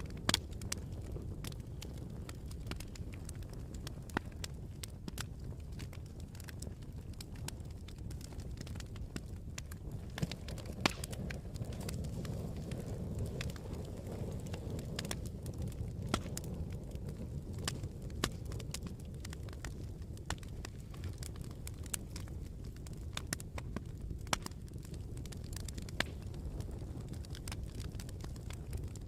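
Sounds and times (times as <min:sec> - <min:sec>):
campfire flames rumbling: 0:00.0 - 0:29.0
fire crackling and popping: 0:00.0 - 0:29.0
sharp snaps of fire: 0:00.0 - 0:29.0.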